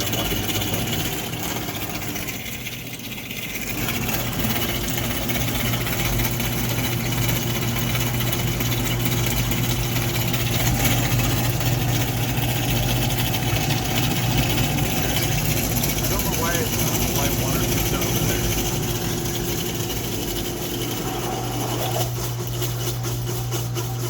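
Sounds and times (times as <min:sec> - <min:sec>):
dishwasher pump motor humming: 0:00.0 - 0:24.0.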